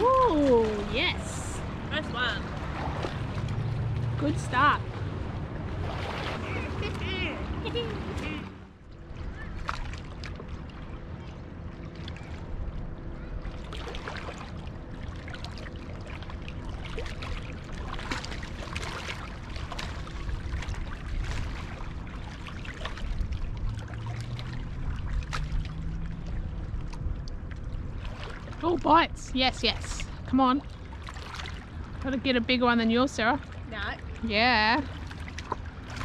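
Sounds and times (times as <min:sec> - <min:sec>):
motorboat droning: 0:00.0 - 0:36.0.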